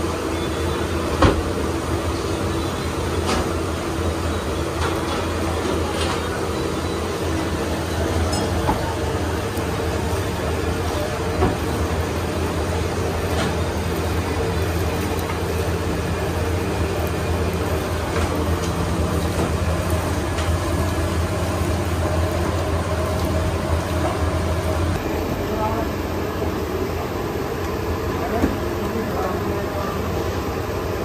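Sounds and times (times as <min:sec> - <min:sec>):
dough churning in steel bowl: 0:00.0 - 0:31.0
dough mixer motor humming: 0:00.0 - 0:31.0.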